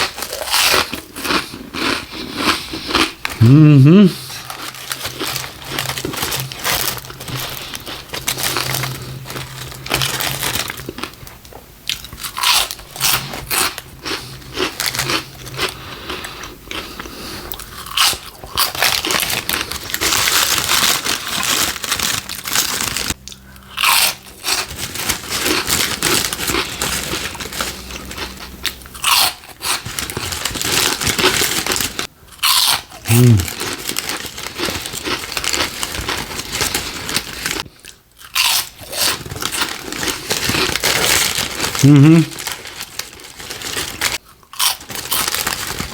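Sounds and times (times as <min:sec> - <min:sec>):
crunching and chewing: 0:00.0 - 0:03.6, 0:04.2 - 0:45.9.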